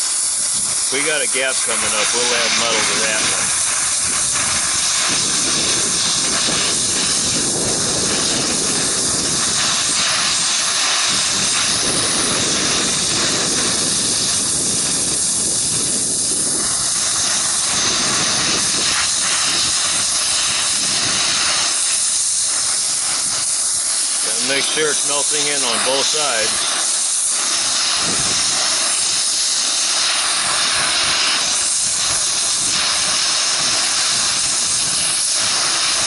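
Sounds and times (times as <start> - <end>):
welding torch flame hissing: 0.0 - 36.0.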